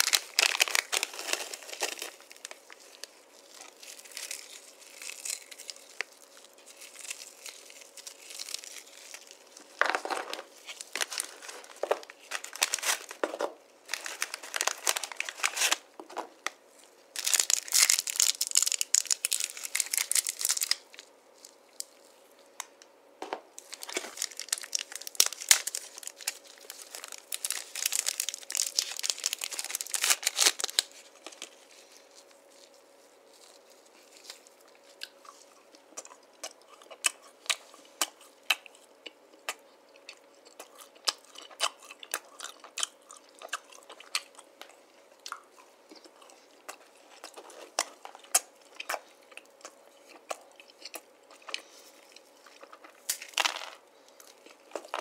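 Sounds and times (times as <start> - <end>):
candy wrappers crinkling and tearing: 0.0 - 22.8, 23.6 - 55.0.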